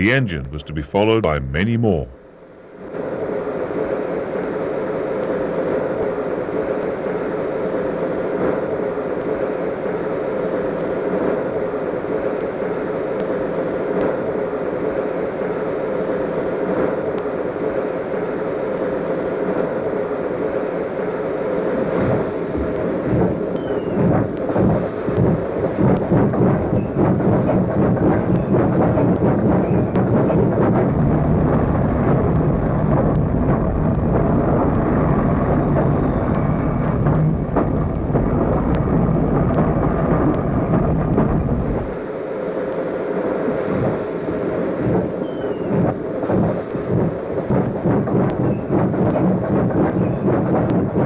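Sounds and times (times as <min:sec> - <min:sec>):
steam locomotive exhaust beats: 0:00.0 - 0:51.0.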